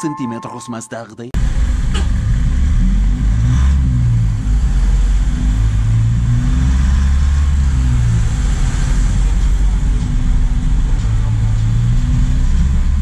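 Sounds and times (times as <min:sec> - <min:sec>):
road noise: 0:01.4 - 0:13.0
truck engine droning: 0:01.4 - 0:13.0.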